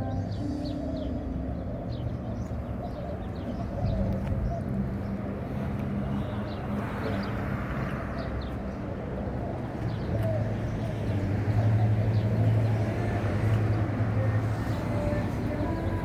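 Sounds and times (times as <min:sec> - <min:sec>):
passing street traffic: 0:00.0 - 0:16.0.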